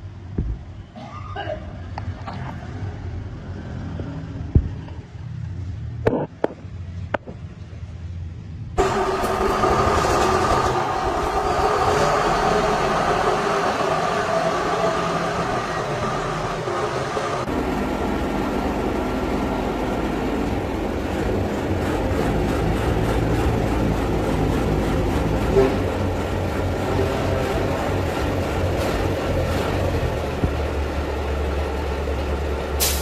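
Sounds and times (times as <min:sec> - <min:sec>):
heavy truck engine running: 0:02.6 - 0:33.0.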